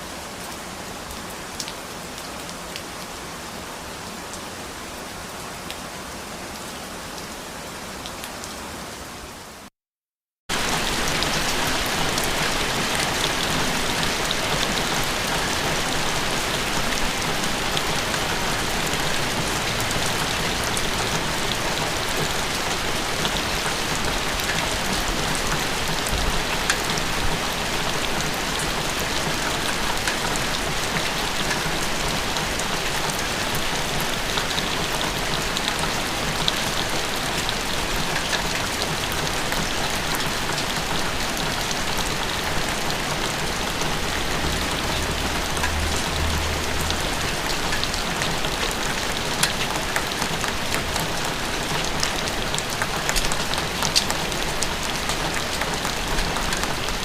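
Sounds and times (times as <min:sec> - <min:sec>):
steady rain falling: 0:00.0 - 0:09.7, 0:10.5 - 0:57.0.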